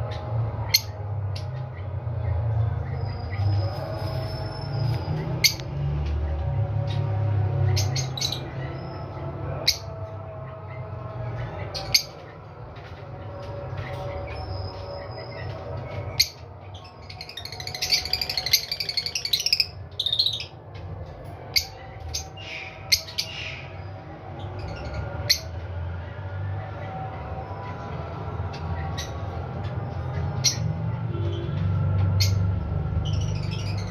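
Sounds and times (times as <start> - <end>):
birds squawking and chirping: 0.0 - 33.9.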